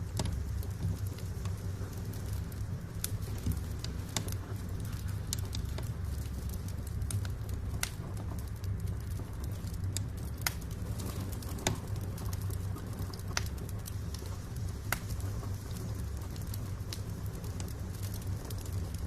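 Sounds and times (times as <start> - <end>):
burning logs crackling: 0.0 - 19.0
wood fire rumble: 0.0 - 19.0.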